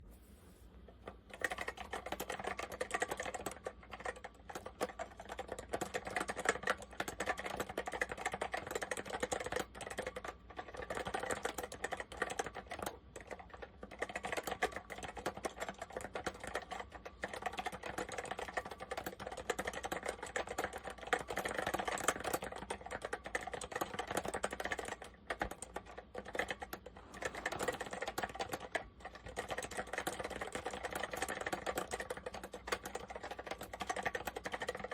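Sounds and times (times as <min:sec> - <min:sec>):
keyboard typing clicks: 0:01.3 - 0:34.9.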